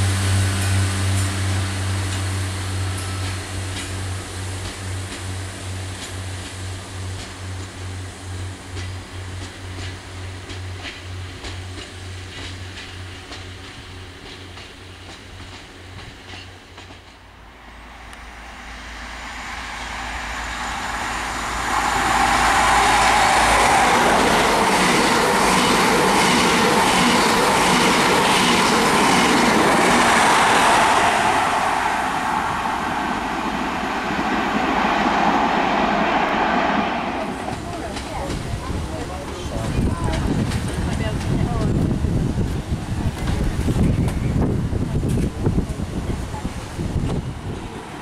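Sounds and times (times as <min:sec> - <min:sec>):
diesel train passing: 0:00.0 - 0:48.0.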